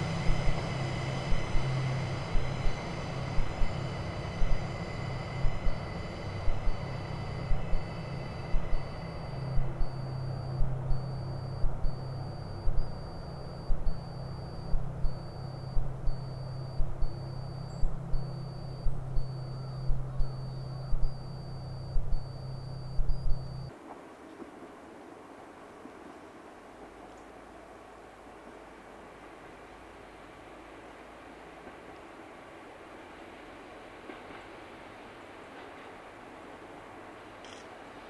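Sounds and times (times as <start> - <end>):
low diesel locomotive drone: 0.0 - 38.0.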